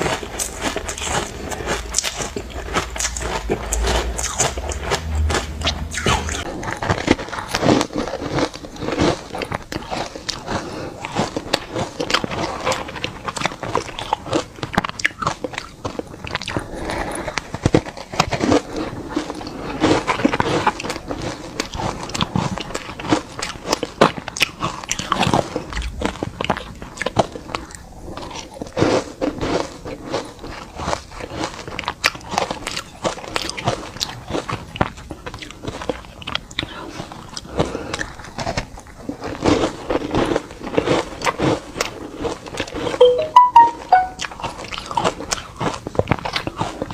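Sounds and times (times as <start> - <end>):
person chewing ice crunching: 0.0 - 43.0, 44.6 - 46.9.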